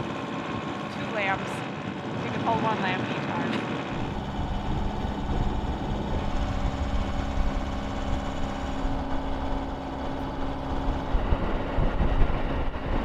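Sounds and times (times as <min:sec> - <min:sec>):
boat diesel engine running: 0:00.0 - 0:13.0.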